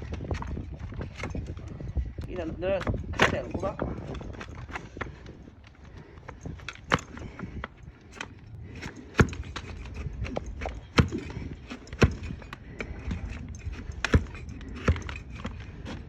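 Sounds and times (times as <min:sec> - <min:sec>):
donkey hooves knocking on hard ground: 0:00.0 - 0:16.0.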